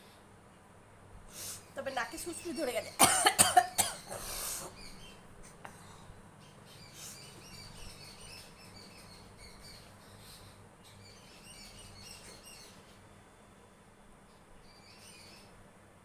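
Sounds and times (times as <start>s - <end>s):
small birds chirping: 1.3s - 13.3s, 14.2s - 15.8s.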